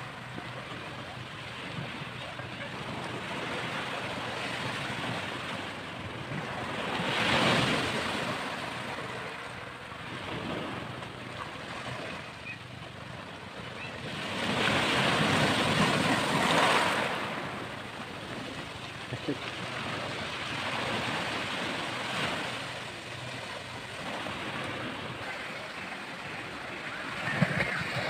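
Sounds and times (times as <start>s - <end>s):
small waves washing on beach: 0.0s - 28.0s.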